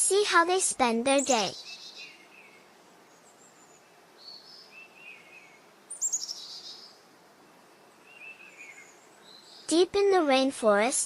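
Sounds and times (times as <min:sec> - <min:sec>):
faint outdoor hiss: 0:00.0 - 0:11.0
birds chirping: 0:00.4 - 0:10.4.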